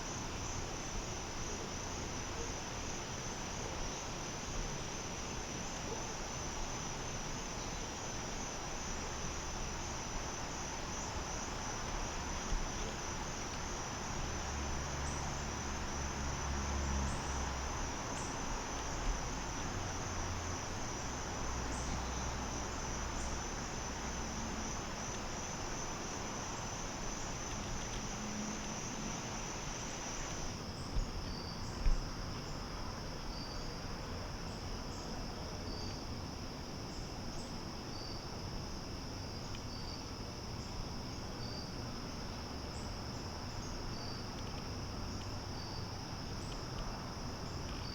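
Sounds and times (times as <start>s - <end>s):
background hiss: 0.0s - 47.9s
insect chorus trilling: 0.0s - 47.9s.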